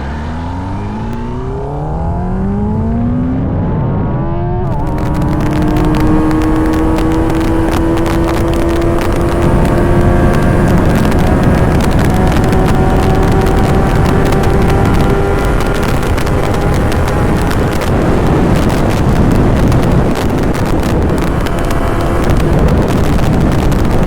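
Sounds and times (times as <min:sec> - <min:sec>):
motorcycle engine at high revs: 0:00.0 - 0:24.0
wind buffeting microphone: 0:00.0 - 0:24.0.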